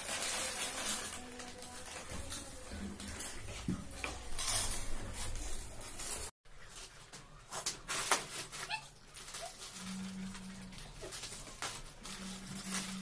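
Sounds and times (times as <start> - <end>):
foil packets crinkling: 0.0 - 13.0.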